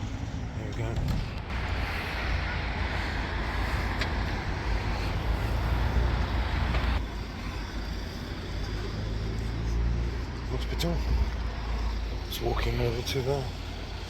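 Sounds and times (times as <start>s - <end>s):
road traffic rumble: 0.0s - 14.0s
tyre and engine hiss: 1.5s - 14.0s.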